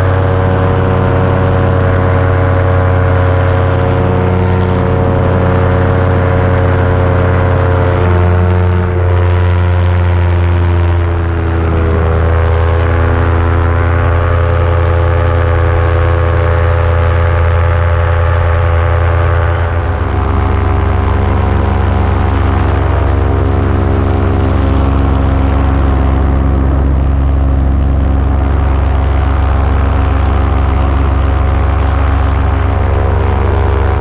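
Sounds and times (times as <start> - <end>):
paramotor engine drone: 0.0 - 34.0.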